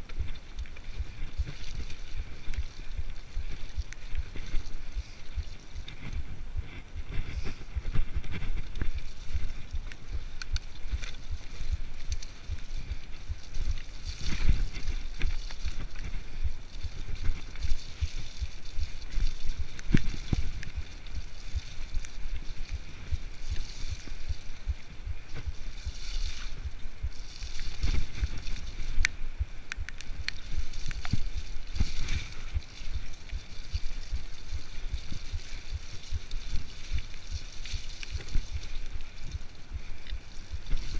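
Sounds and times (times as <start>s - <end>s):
bike tyres rumbling on dirt: 0.0s - 40.9s
wind buffeting microphone: 0.0s - 40.9s.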